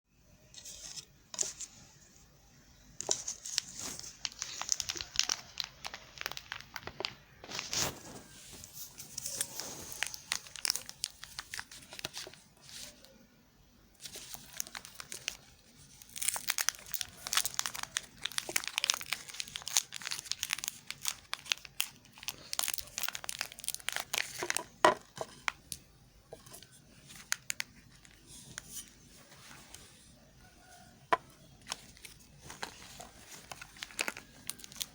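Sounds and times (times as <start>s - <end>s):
packaging crinkling and tearing: 3.0s - 13.1s, 14.0s - 29.9s, 30.7s - 34.9s.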